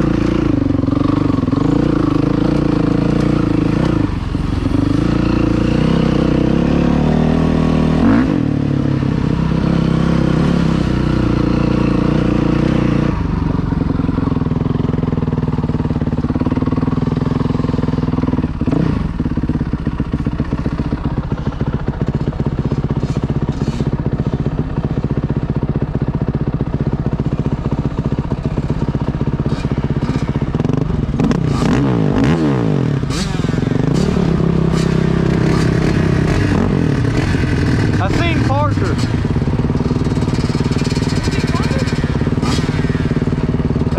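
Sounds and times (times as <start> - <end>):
dirt bike engine revving: 0.0 - 25.4, 27.0 - 43.9.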